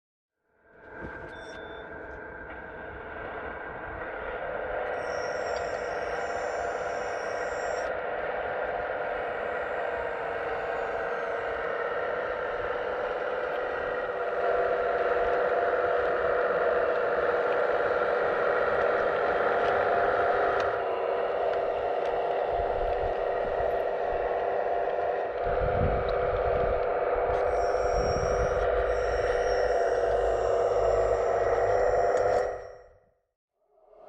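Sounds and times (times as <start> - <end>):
hydraulic pump motor whining: 4.8 - 32.9.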